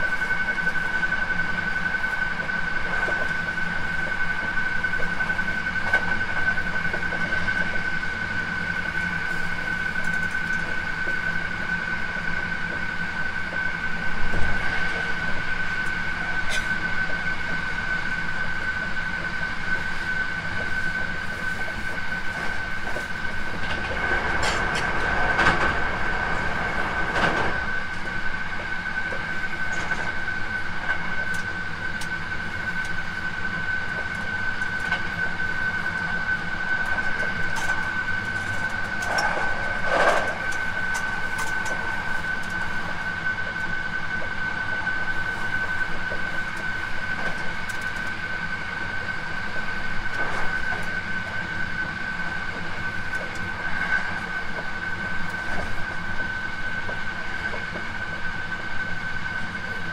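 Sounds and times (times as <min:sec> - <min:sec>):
high-pitched whine: 0:00.0 - 0:59.9
train rumble: 0:00.0 - 0:59.9.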